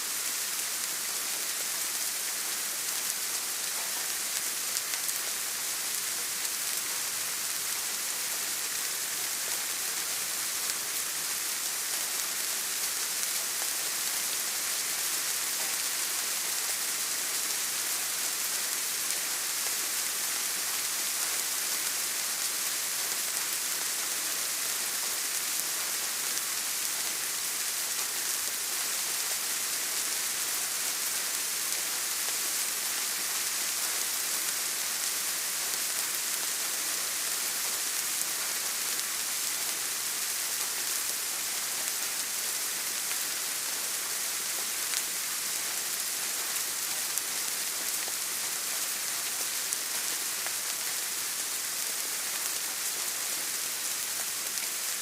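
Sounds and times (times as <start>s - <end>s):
rain pattering: 0.1s - 55.0s.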